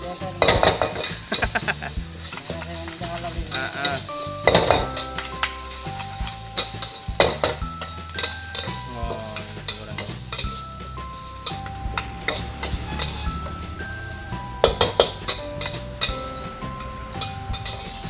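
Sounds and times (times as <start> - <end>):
metal utensils scraping a wok: 0.0 - 18.0
rice sizzling in a wok: 0.0 - 18.0.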